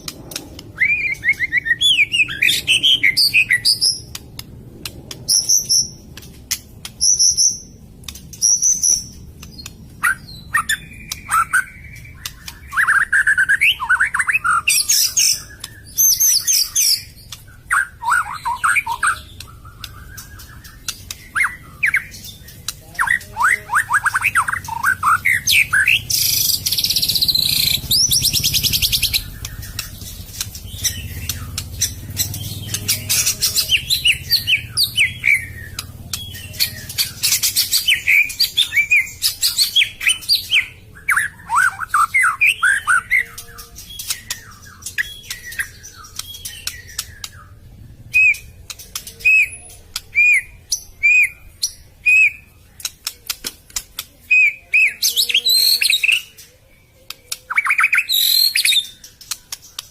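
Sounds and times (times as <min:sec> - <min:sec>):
bird singing whistles and trills: 0:00.0 - 0:04.2, 0:05.3 - 0:52.6, 0:54.2 - 0:59.9.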